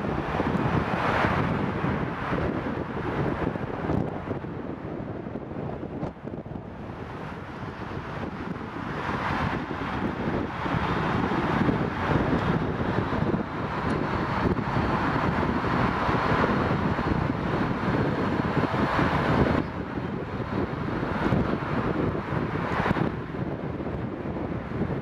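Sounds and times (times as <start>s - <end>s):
jet engines running: 0.0s - 25.0s
wind buffeting microphone: 0.0s - 25.0s.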